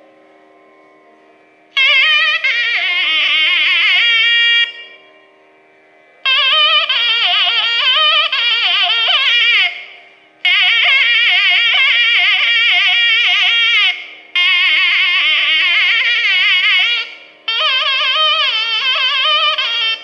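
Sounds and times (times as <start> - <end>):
double-reed wind instrument melody: 0.0 - 20.0.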